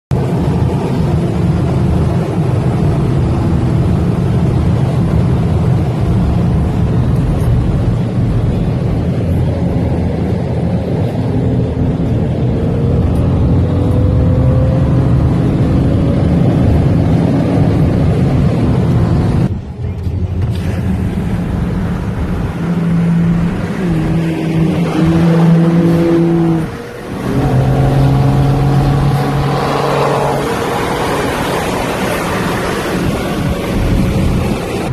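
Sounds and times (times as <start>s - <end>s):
car engine running: 0.1s - 34.9s.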